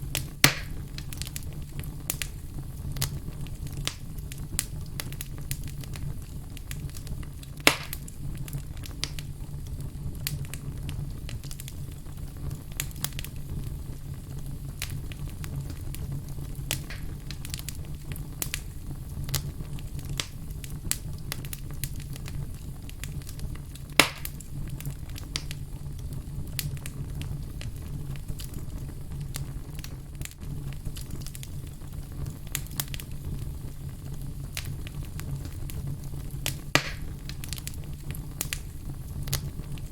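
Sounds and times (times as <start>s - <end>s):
logs crackling in fireplace: 0.0s - 39.9s
fire snapping loudly: 0.1s - 39.9s.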